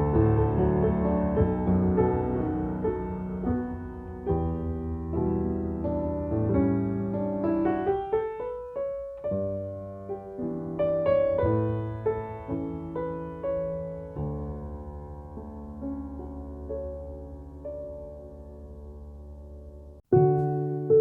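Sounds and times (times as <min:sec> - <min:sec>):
soft slow piano music: 0:00.0 - 0:21.0.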